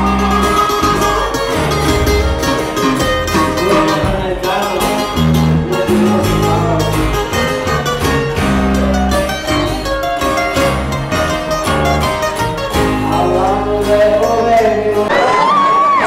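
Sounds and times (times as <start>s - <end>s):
bass line: 0.0s - 15.6s
band playing: 0.0s - 15.9s
plucked guitar: 0.0s - 16.0s.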